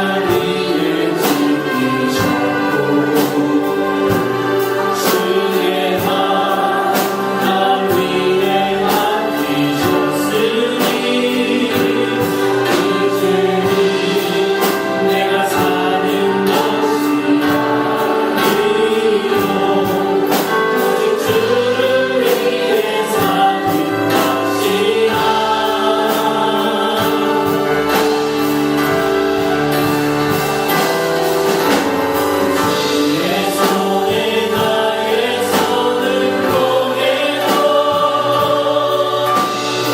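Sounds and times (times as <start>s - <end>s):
group singing worship song: 0.0s - 39.9s
instrumental accompaniment: 0.0s - 39.9s
steady drum beat: 0.0s - 39.9s.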